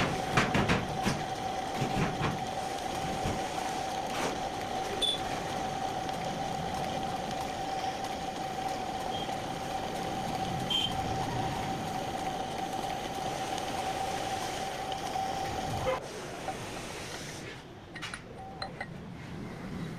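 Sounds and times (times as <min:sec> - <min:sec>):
lathe running with high whine: 0:00.0 - 0:16.0.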